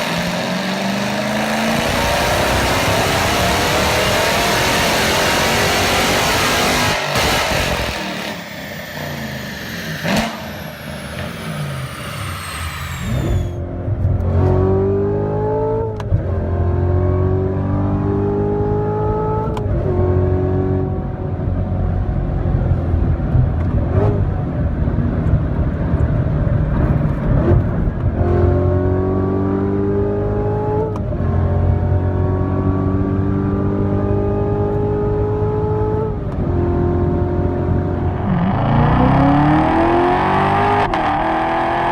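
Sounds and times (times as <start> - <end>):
car engine accelerating through gears: 0.0 - 41.9.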